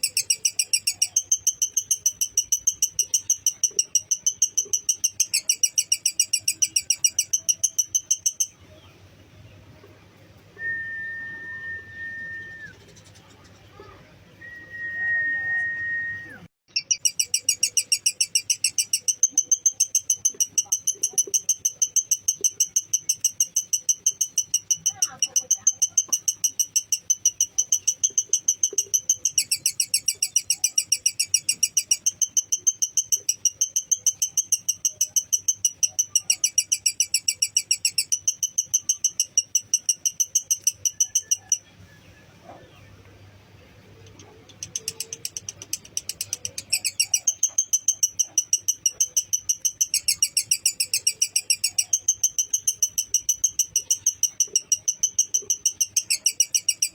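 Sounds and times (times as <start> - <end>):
lovebird chattering: 0.0 - 8.9, 12.5 - 14.0, 16.7 - 41.8, 43.9 - 56.9.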